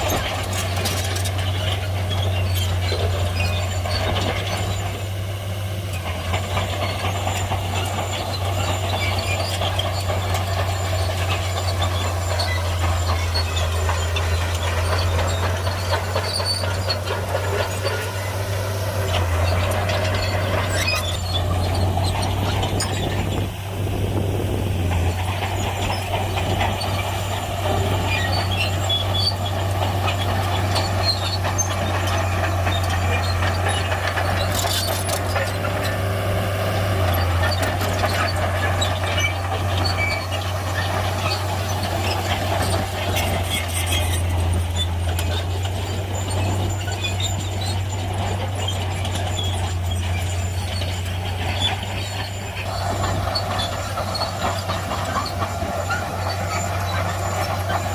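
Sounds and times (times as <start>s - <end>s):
bulldozer diesel drone: 0.0s - 57.9s
high squeal of tracks: 0.0s - 57.9s.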